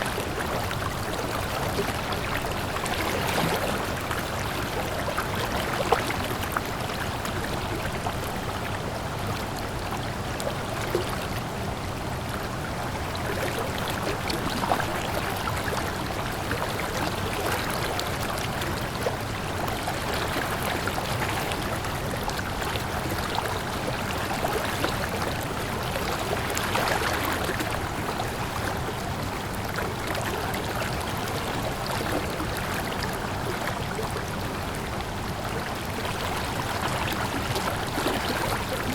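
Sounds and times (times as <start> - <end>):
water flowing steadily: 0.0 - 38.9.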